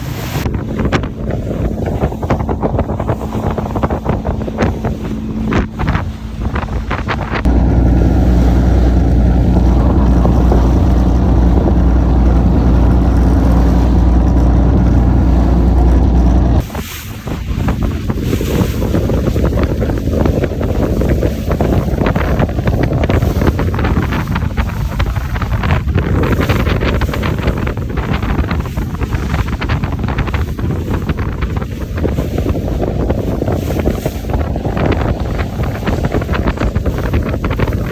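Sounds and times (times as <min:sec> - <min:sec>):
boat engine droning: 0:00.0 - 0:37.9
water noise: 0:00.0 - 0:37.9
wind buffeting microphone: 0:00.0 - 0:37.9.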